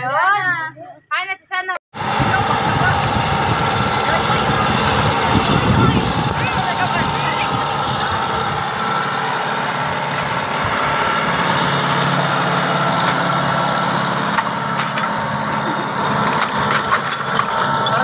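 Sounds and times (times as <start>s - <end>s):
tractor diesel engine running: 2.0s - 18.0s.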